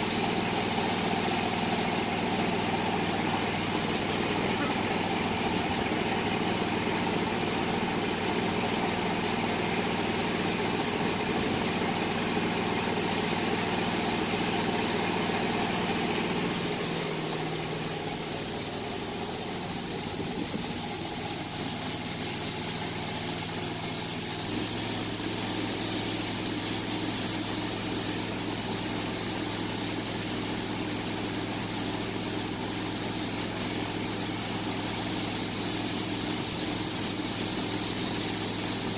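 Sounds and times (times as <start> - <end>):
air compressor droning: 0.0 - 38.9
spray gun hissing: 0.0 - 38.9.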